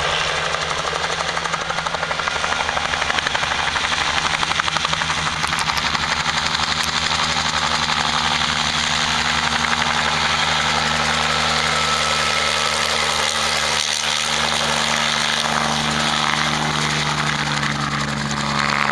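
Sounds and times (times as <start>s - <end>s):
helicopter engine running: 0.0s - 18.9s
helicopter rotor beat: 0.0s - 18.9s.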